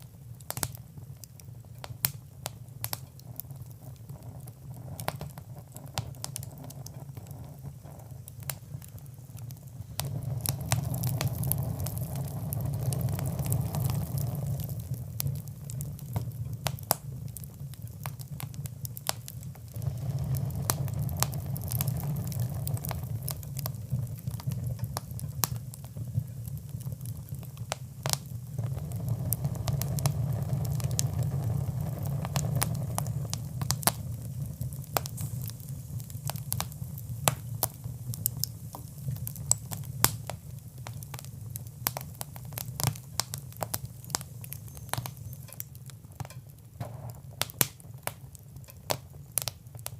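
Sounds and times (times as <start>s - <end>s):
low rumble of flames: 0.0s - 49.9s
wood fire crackling: 0.0s - 49.9s.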